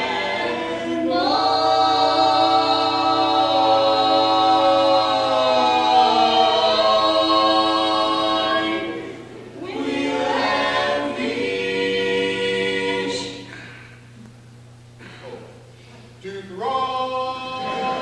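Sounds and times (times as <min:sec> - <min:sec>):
quartet singing close harmony: 0:00.0 - 0:13.5, 0:16.3 - 0:18.0.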